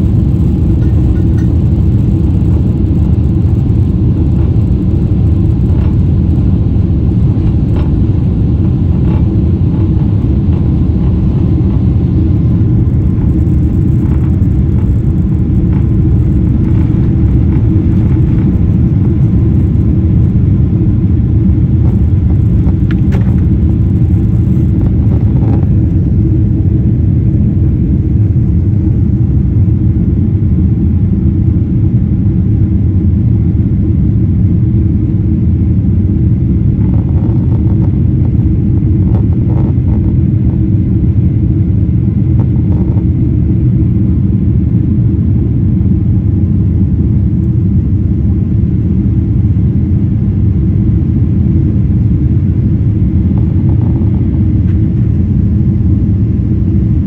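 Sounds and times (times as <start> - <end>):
low rumble of jet engines: 0.0 - 57.0.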